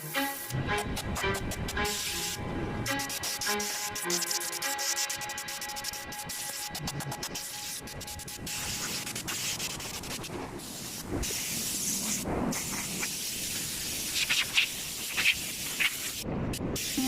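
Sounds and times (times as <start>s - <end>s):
sharp spurts of spray: 1.8s - 17.0s
spraying hiss: 1.8s - 17.0s.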